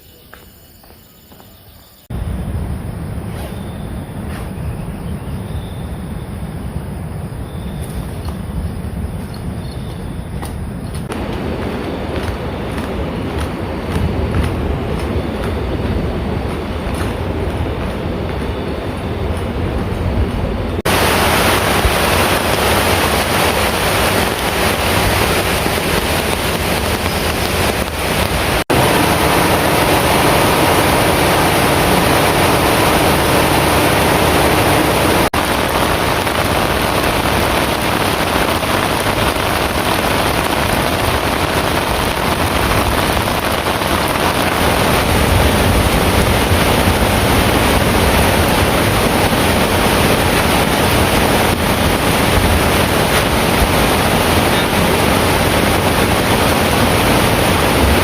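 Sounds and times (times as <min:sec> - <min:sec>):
heavy rain falling: 0:11.0 - 0:58.0.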